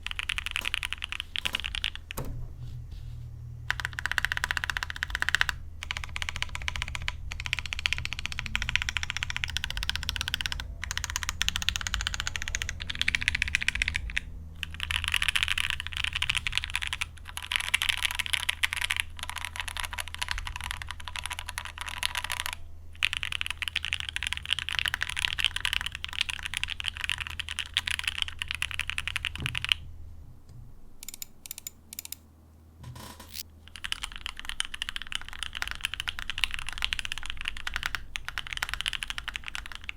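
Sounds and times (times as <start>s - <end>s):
keyboard typing: 0.0s - 2.5s, 3.7s - 29.8s, 31.0s - 32.2s, 32.9s - 39.9s.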